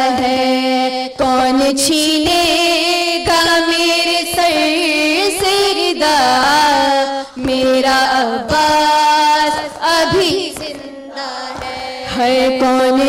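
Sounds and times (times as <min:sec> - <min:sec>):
women singing a lament: 0:00.0 - 0:13.0.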